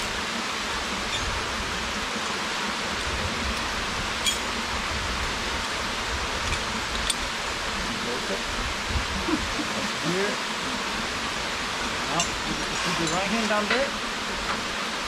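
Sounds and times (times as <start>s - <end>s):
rushing waterfall: 0.0s - 15.0s.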